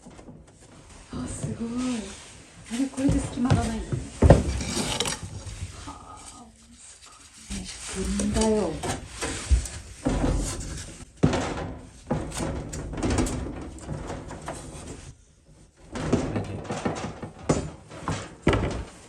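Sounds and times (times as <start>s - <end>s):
wood scraping and rubbing: 0.0s - 19.0s.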